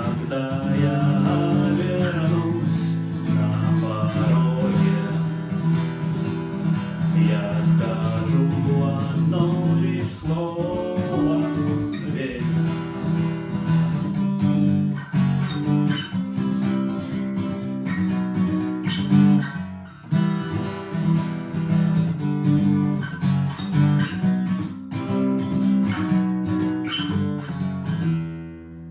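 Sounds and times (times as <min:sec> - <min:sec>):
acoustic guitar strumming: 0:00.0 - 0:28.9.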